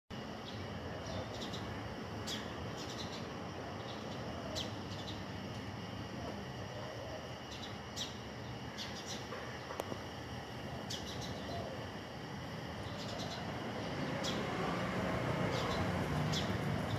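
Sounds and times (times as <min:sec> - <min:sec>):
low background hum: 0:00.1 - 0:16.9
small birds chirping: 0:00.4 - 0:05.7, 0:07.4 - 0:10.0, 0:10.8 - 0:16.9.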